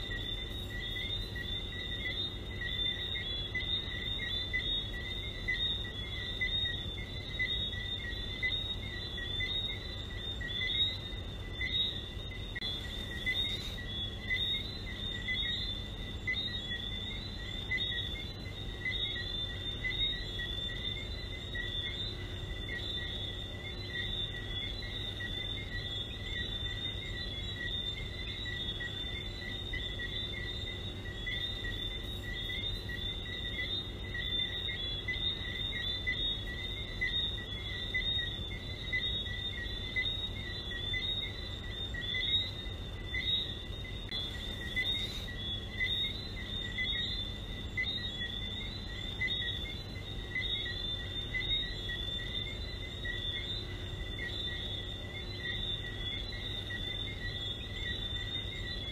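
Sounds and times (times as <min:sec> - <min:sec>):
frogs chirping in chorus: 0:00.0 - 0:58.9
low steady hum: 0:00.0 - 0:58.9.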